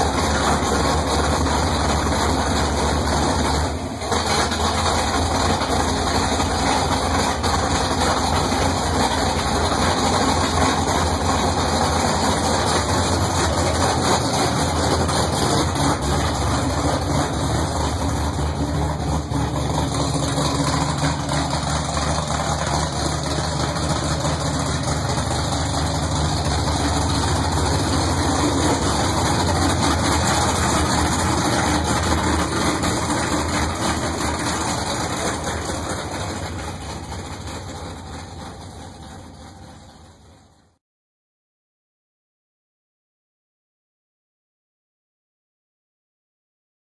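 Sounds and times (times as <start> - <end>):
car engine idling: 0.0 - 40.8.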